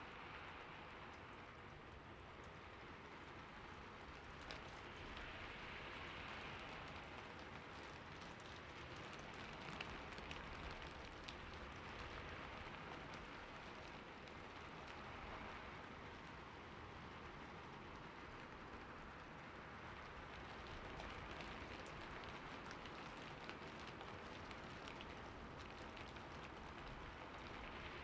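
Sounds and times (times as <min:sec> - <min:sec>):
rain falling on a roof: 0:00.0 - 0:28.0.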